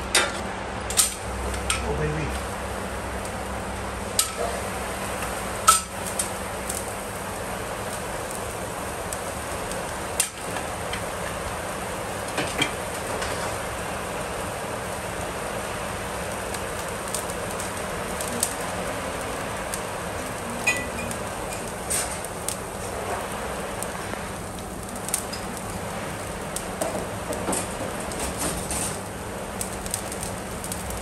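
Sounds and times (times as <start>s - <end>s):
meat sizzling on a grill: 0.0s - 31.0s.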